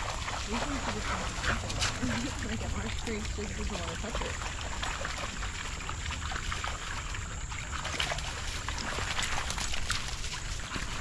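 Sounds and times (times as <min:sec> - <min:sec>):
dogs splashing in water: 0:00.0 - 0:11.0
low steady rumble: 0:00.0 - 0:11.0.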